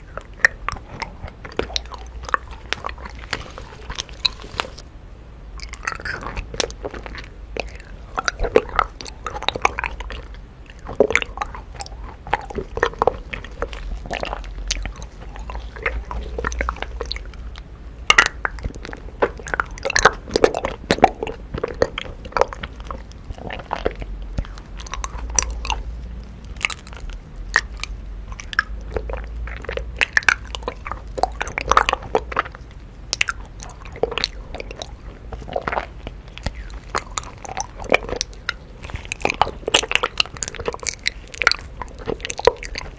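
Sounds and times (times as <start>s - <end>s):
chewing honeycomb crunches: 0.0s - 4.9s, 5.6s - 42.9s.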